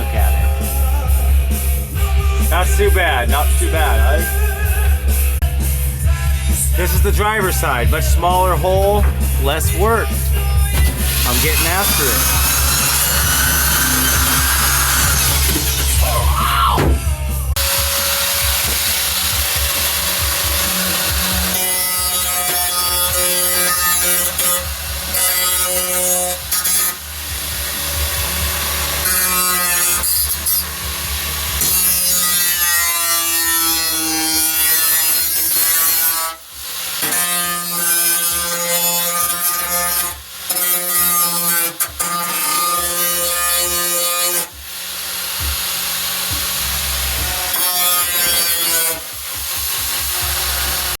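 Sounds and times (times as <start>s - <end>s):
power tool whining: 6.9s - 37.7s, 39.2s - 51.0s.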